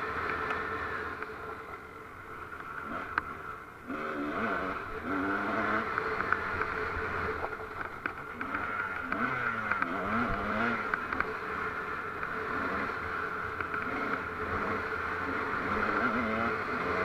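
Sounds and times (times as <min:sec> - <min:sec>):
off-road vehicle engine revving: 0:02.6 - 0:17.0.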